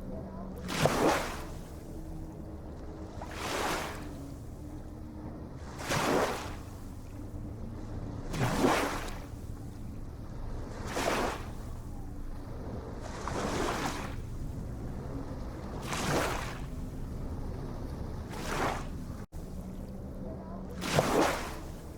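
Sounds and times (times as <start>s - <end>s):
low rumble of surf: 0.0s - 21.9s
small waves washing in: 0.0s - 21.9s.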